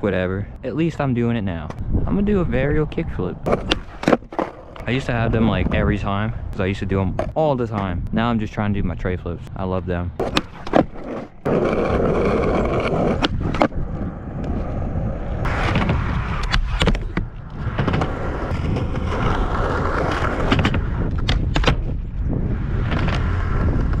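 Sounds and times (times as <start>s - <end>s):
skateboard wheels rolling on pavement: 0.0s - 8.0s, 10.0s - 24.0s.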